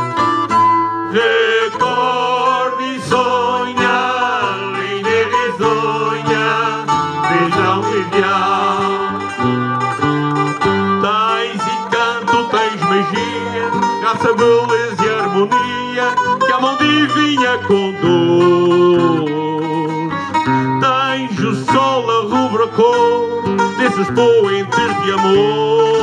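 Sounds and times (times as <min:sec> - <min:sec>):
plucked guitars playing: 0:00.0 - 0:26.0.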